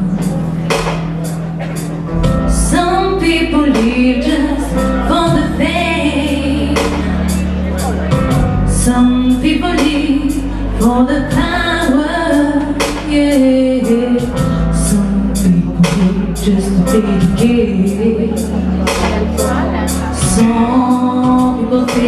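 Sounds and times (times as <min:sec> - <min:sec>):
backing track with steady beat: 0:00.0 - 0:22.0
person singing: 0:02.5 - 0:22.0.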